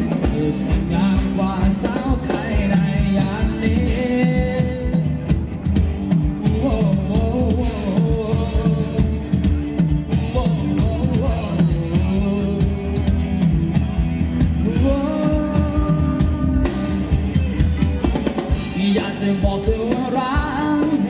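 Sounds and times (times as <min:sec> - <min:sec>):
drum kit beat: 0:00.0 - 0:21.0
live band dance music: 0:00.0 - 0:21.0.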